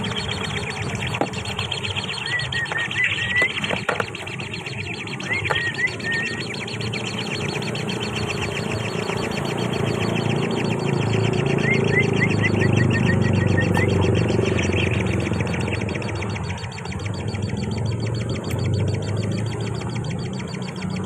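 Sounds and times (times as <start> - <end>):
fast pulsing trill: 0.0 - 21.0
rising bird chirps: 0.0 - 21.0.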